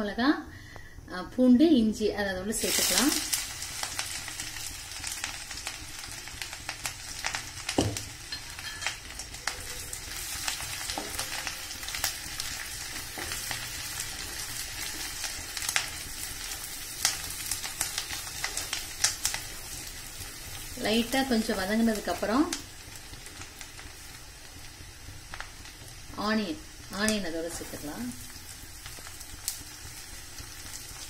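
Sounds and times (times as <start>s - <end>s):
food sizzling in butter: 2.3s - 31.0s.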